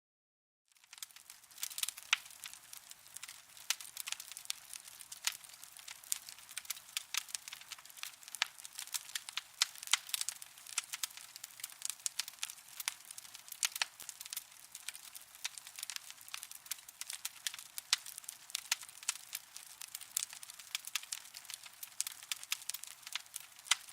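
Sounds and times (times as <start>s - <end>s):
burning coals crackling: 0.7s - 23.9s.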